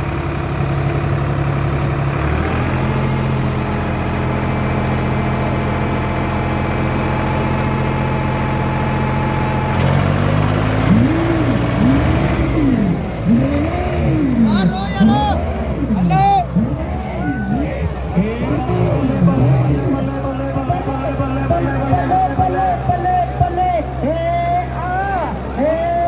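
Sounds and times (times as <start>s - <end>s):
diesel tractor engines straining: 0.0s - 26.0s.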